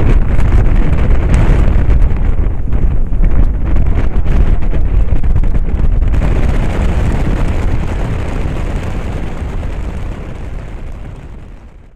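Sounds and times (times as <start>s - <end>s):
strong wind buffeting microphone: 0.0s - 11.9s.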